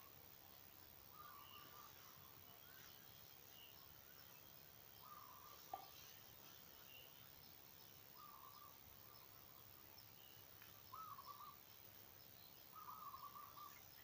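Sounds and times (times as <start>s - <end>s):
faint bird calls: 0.9s - 14.0s
higher bird chirps: 1.0s - 14.0s.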